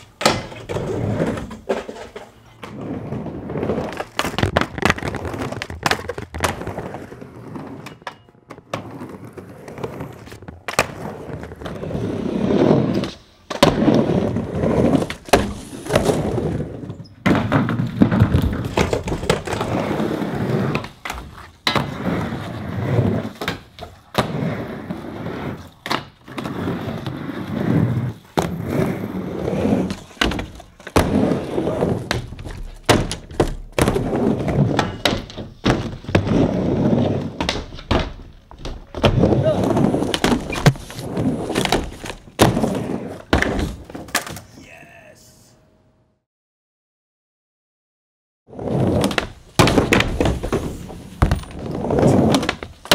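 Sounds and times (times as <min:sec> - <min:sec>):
skateboard wheels rolling on plywood: 0:00.0 - 0:44.5, 0:48.5 - 0:52.9
skateboards clacking on coping: 0:00.0 - 0:44.5, 0:48.6 - 0:52.9.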